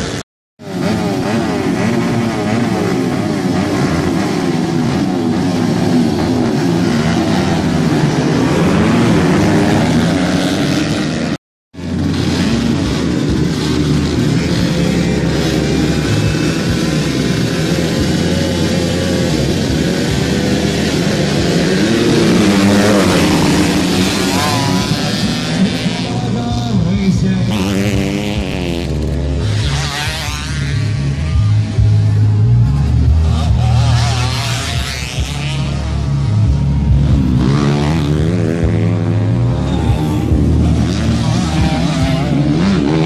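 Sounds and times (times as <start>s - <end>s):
dirt bikes revving: 0.0s - 43.0s.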